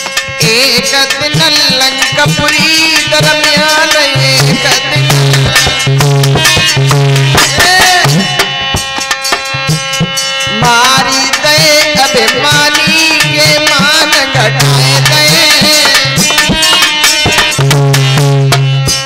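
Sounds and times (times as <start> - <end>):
harmonium chords and melody: 0.0 - 19.0
hand drum strokes: 2.0 - 19.0.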